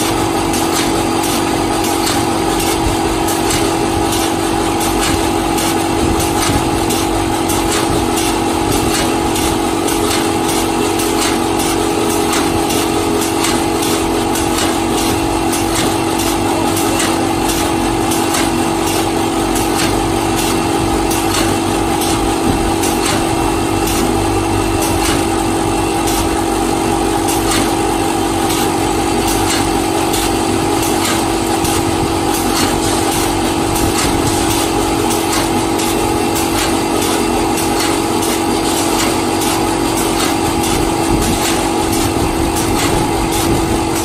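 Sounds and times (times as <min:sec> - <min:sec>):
machine drone and hum: 0:00.0 - 0:44.0
sharp clicks and knocks: 0:00.4 - 0:26.5, 0:27.2 - 0:44.0.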